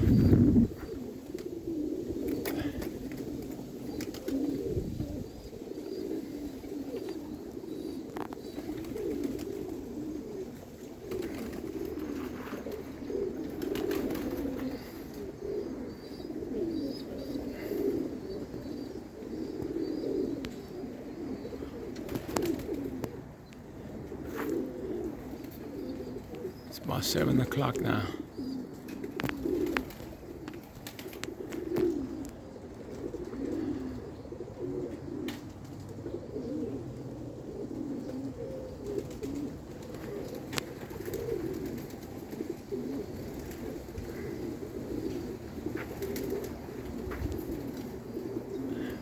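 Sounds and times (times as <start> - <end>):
pigeons cooing: 0.0 - 49.0.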